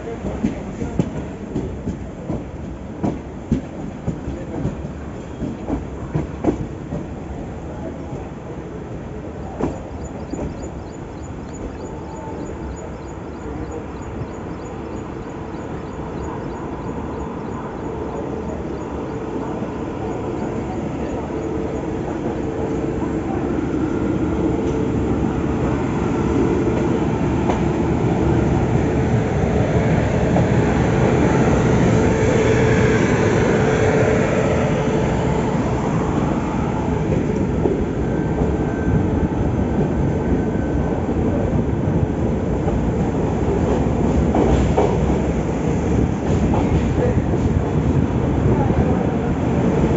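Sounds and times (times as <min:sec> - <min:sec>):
train rumbling: 0:00.0 - 0:49.9.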